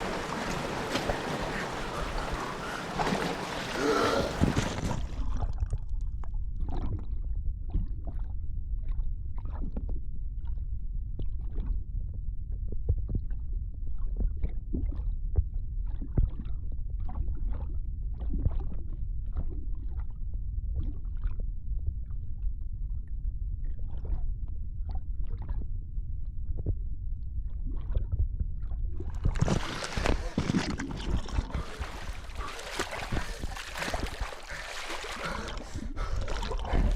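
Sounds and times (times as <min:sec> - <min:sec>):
underwater bubbling and gurgling: 0:00.0 - 0:10.6, 0:11.2 - 0:25.8, 0:26.5 - 0:36.9
underwater rumble: 0:00.0 - 0:36.9.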